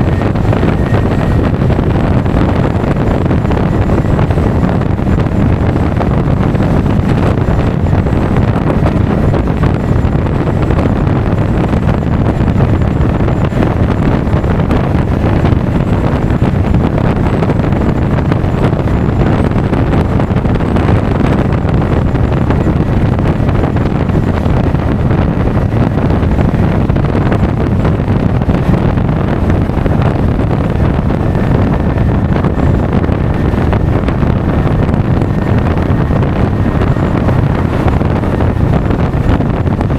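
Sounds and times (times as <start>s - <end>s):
road noise: 0.0s - 11.8s, 19.6s - 39.9s
wind rush on microphone: 0.0s - 39.9s.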